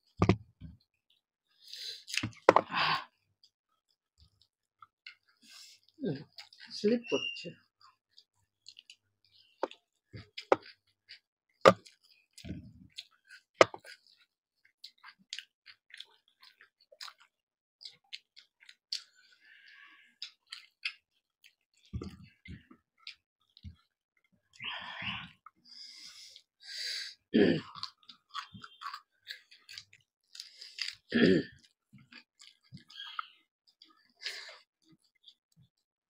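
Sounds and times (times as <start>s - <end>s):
wet chewing and mouth clicks: 0.1s - 6.8s, 7.8s - 26.6s, 27.6s - 35.8s.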